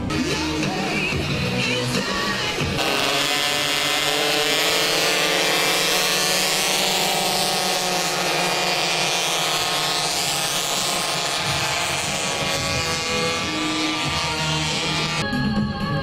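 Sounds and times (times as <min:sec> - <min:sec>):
racing motorcycle engines passing: 0:00.0 - 0:15.2.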